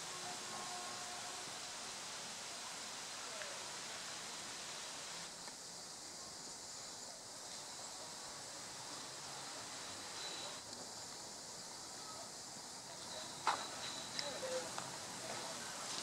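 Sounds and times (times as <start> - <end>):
leaves rustling in breeze: 0.0 - 16.0
outdoor background hiss: 0.0 - 16.0.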